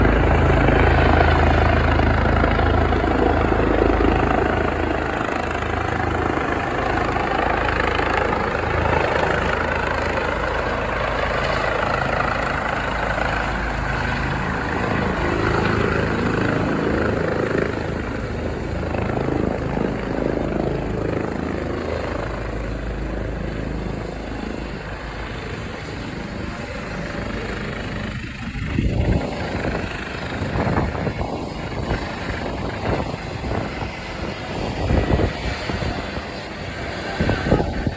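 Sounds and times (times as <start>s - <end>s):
helicopter rotor and engine: 0.0s - 37.9s.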